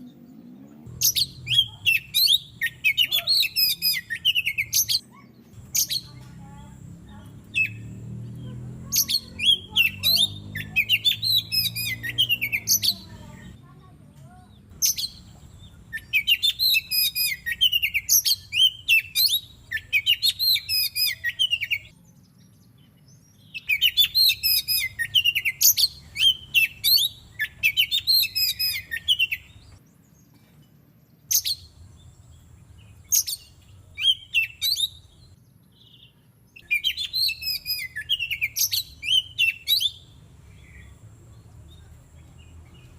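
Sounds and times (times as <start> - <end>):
bird singing high phrases: 0.0 - 30.3, 31.0 - 42.9.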